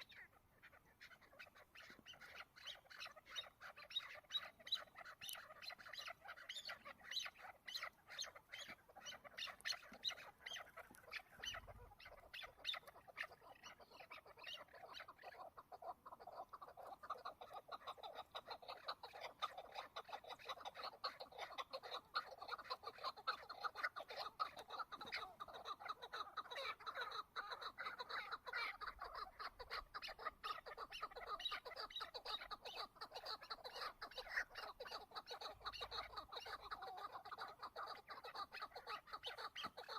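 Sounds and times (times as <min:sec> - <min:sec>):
partridge clucking call: 0:00.0 - 0:39.9.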